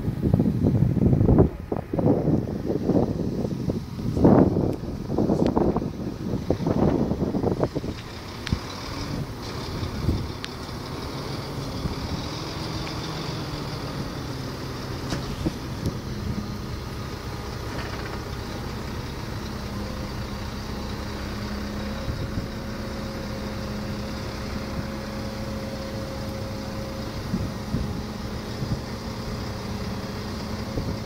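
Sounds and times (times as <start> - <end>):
heavy diesel engines running: 0.0 - 31.0.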